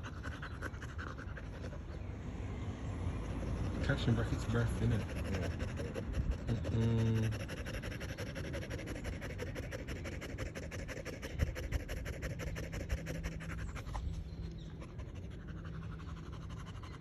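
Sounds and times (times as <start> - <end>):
dog panting fast: 0.0 - 2.3, 3.0 - 17.0.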